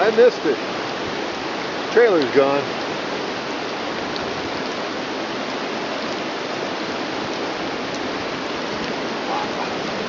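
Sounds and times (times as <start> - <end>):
flooded river rushing: 0.0 - 10.0.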